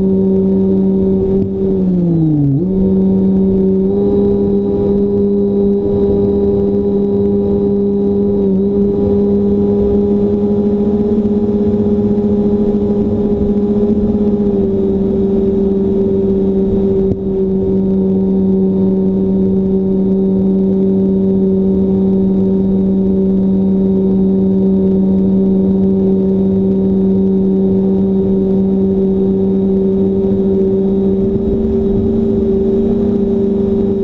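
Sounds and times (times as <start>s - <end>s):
model plane motor droning: 0.0s - 34.0s.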